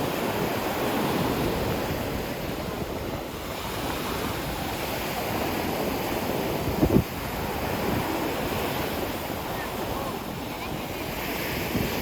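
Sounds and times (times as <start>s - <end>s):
ocean surf washing on shore: 0.0s - 12.0s.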